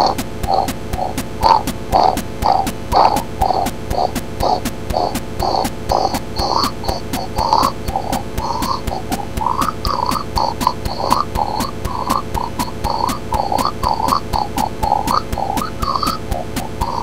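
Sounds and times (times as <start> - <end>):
fast drum beat: 0.0 - 17.0
guttural distorted vocals: 0.0 - 17.0.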